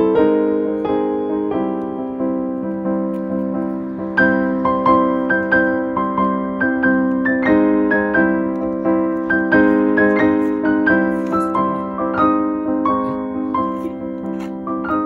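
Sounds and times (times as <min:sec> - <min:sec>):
piano-like keyboard melody: 0:00.0 - 0:15.0.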